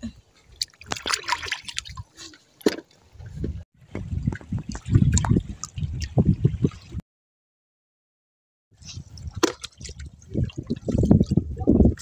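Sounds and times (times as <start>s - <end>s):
water sloshing and trickling: 0.4s - 7.0s, 8.8s - 12.0s.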